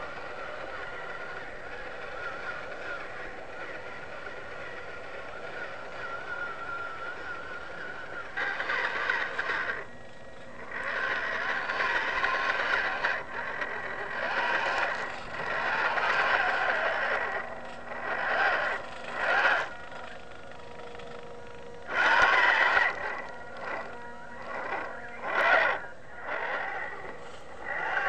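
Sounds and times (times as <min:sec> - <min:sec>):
small electric motor whining: 0:00.0 - 0:28.0.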